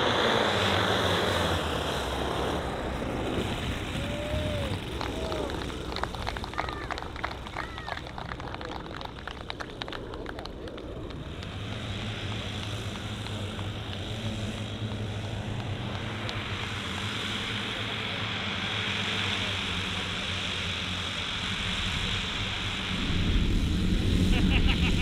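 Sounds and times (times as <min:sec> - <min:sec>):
model engines propeller drone: 0:00.0 - 0:25.0.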